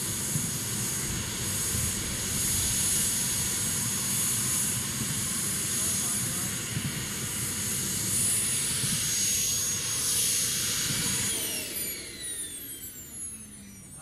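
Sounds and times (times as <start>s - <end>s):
gas turbine whining: 0.0s - 14.0s
rushing exhaust: 0.0s - 14.0s.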